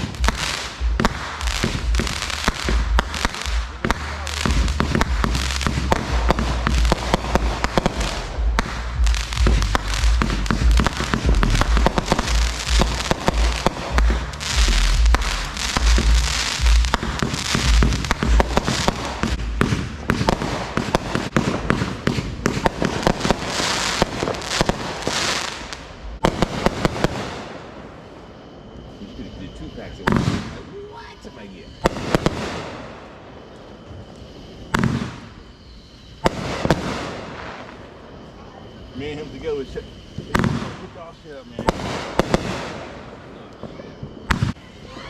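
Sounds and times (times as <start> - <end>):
fireworks popping and crackling: 0.0 - 38.2, 38.9 - 45.0
fireworks hissing: 0.0 - 45.0.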